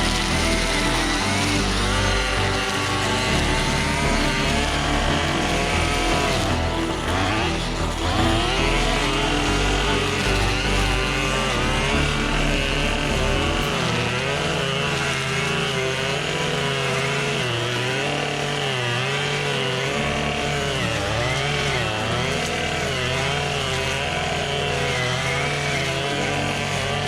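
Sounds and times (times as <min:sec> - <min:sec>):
string trimmer engine running: 0:00.0 - 0:27.0.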